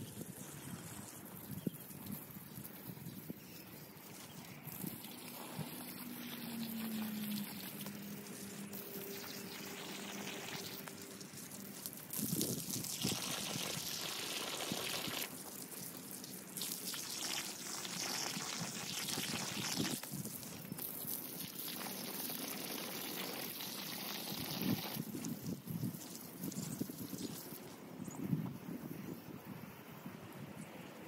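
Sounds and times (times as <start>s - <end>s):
hose water splashing on leaves: 0.0s - 27.8s.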